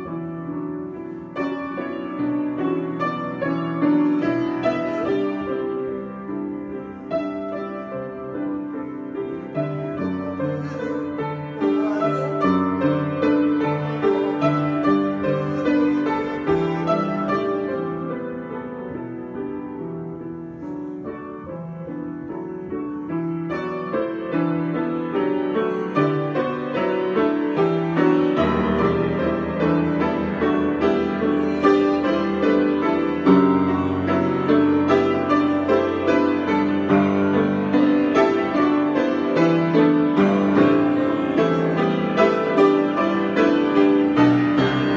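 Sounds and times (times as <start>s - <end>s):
solo piano improvisation: 0.0s - 44.9s.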